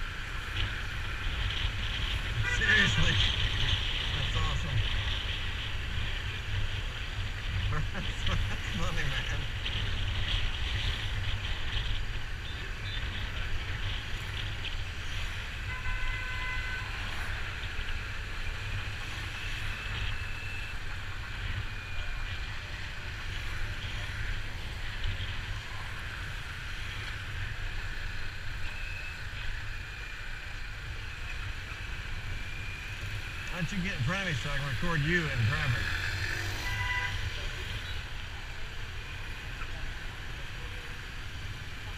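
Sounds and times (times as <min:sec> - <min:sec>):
street traffic: 0:00.0 - 0:41.9.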